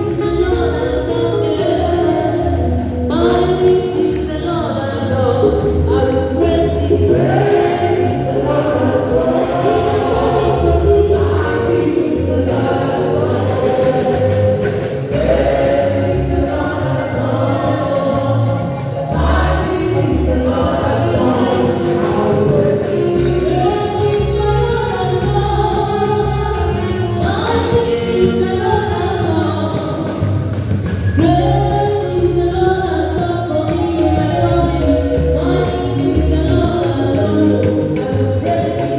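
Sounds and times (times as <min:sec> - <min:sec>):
choir singing gospel: 0:00.0 - 0:38.9
low bass accompaniment: 0:00.0 - 0:38.9.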